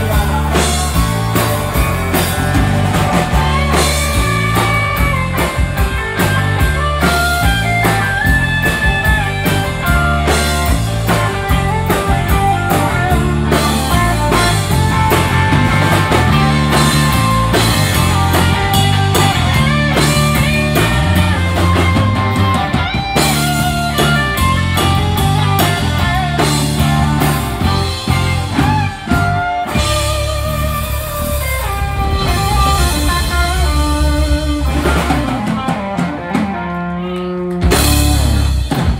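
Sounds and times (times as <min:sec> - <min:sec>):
electric guitar lead: 0:00.0 - 0:38.9
live rock band playing: 0:00.0 - 0:38.9.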